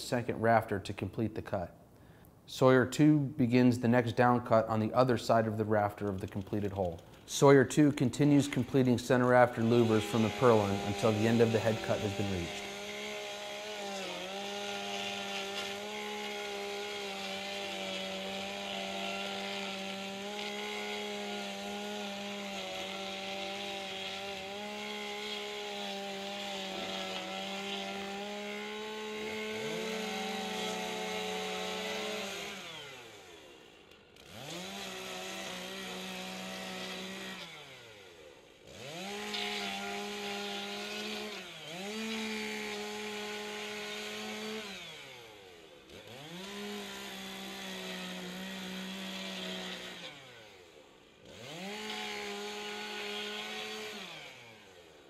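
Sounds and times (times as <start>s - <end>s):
chainsaws cutting at high revs: 2.9s - 55.0s.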